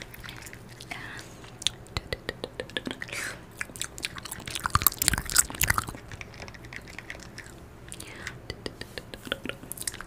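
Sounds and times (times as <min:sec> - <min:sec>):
wet mouth clicks and smacks: 0:00.0 - 0:10.0.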